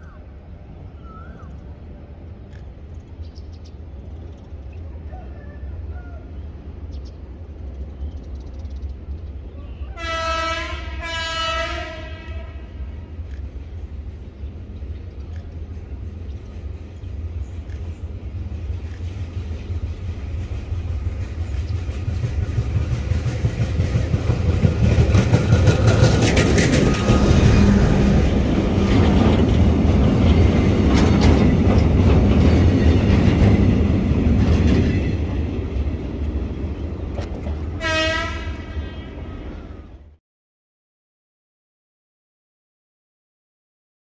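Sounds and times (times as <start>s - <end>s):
maintenance train passing: 0.0s - 40.2s.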